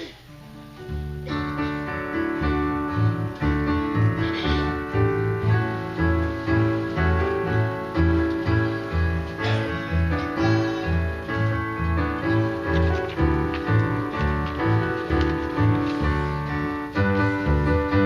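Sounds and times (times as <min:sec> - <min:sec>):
piano keyboard music: 0:00.0 - 0:18.0.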